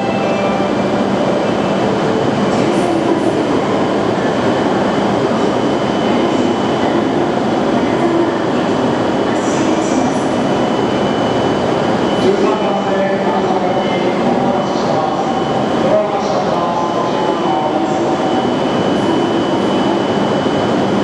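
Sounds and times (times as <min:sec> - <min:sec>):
train rushing and rolling: 0:00.0 - 0:21.0.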